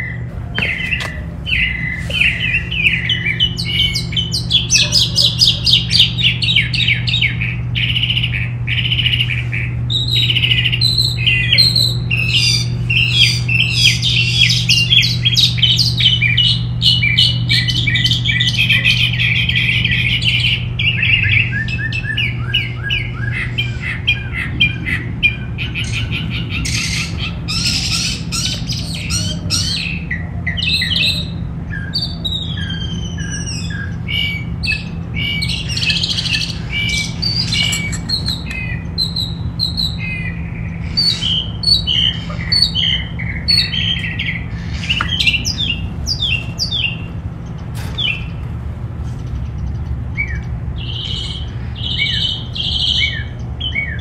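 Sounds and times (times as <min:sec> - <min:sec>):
songbirds chirping and singing: 0:00.0 - 0:54.0
steady low hum: 0:00.0 - 0:54.0.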